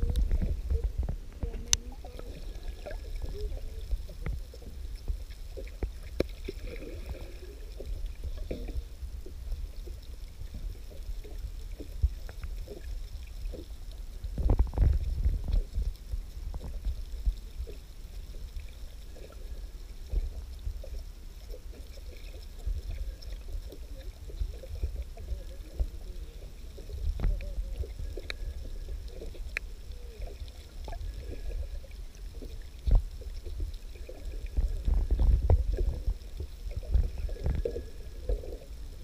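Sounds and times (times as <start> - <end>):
muffled underwater rumble: 0.0 - 39.0
water sloshing: 0.0 - 39.0.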